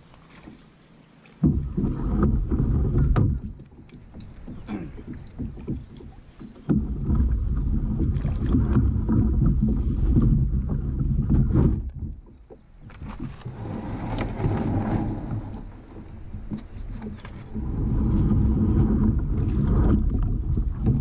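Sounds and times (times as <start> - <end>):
kayak hull rumbling and scraping: 0.0 - 21.0.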